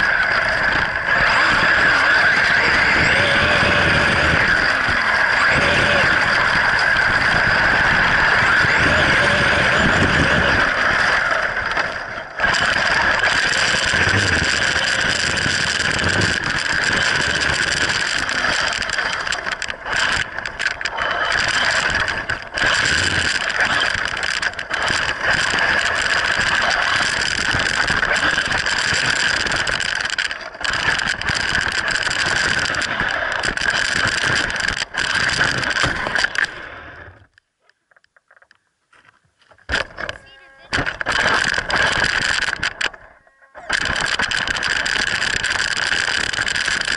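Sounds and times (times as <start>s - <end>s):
toy truck motor whining: 0.0s - 37.4s, 39.7s - 46.9s.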